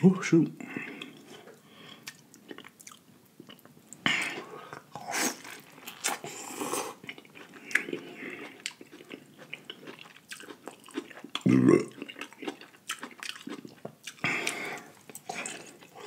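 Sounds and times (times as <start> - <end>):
person biting and chewing corn: 1.0 - 16.0.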